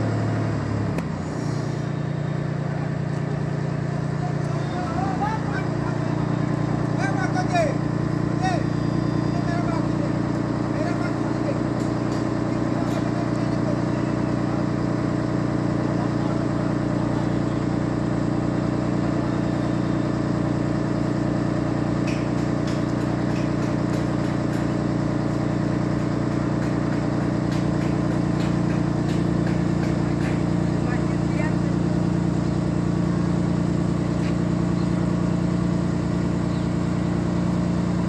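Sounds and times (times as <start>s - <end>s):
diesel engine running steadily: 0.0s - 38.0s.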